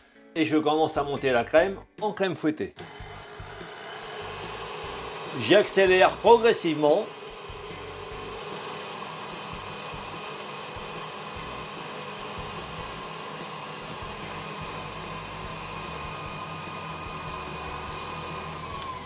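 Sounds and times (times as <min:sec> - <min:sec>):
stand mixer whisking cream: 0:02.8 - 0:19.0.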